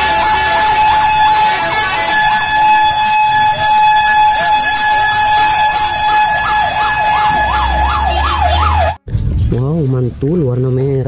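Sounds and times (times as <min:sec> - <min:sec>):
fire truck siren steady tone: 0:00.0 - 0:09.0
warbling siren: 0:00.0 - 0:09.0.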